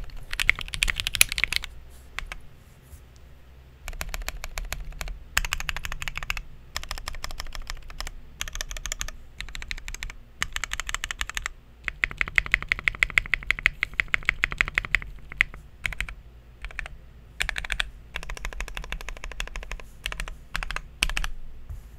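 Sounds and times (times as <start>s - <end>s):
mechanical keyboard typing: 0.0s - 2.4s, 3.9s - 21.3s.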